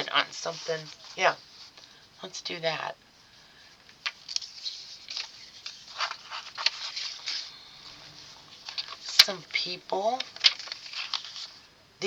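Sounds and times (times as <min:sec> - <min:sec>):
paper rustling: 0:00.0 - 0:02.0, 0:03.2 - 0:11.7.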